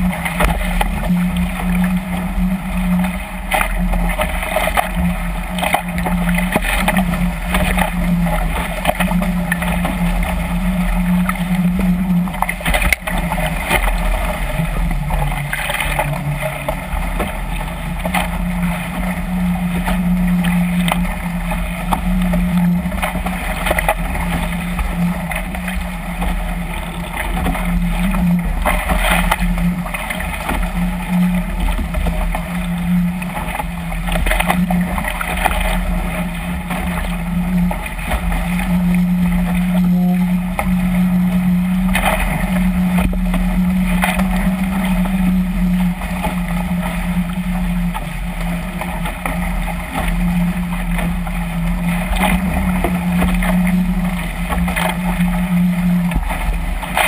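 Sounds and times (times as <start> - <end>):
steady low hum: 0.0 - 57.0
waves slapping hull: 0.0 - 57.0.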